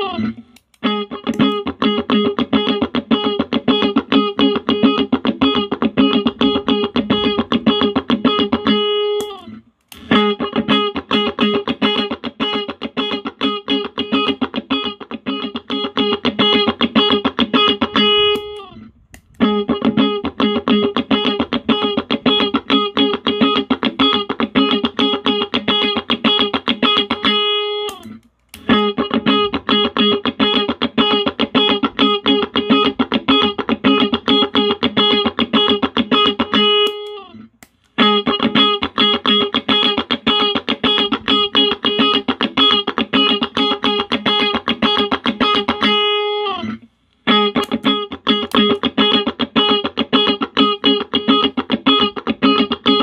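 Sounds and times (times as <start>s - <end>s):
electric guitar phrase: 0.0s - 53.0s.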